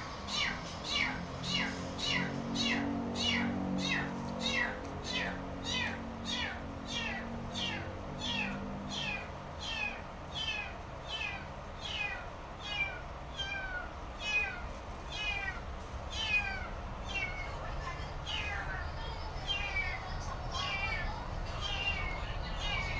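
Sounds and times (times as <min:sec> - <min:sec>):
small animal peeping: 0:00.0 - 0:17.6, 0:19.4 - 0:22.9.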